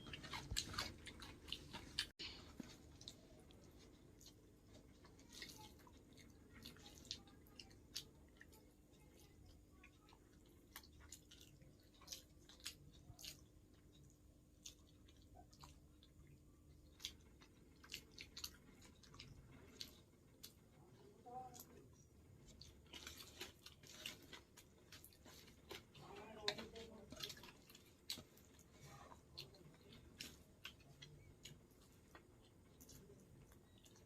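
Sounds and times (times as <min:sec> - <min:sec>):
soft wet chewing: 0:00.0 - 0:34.0.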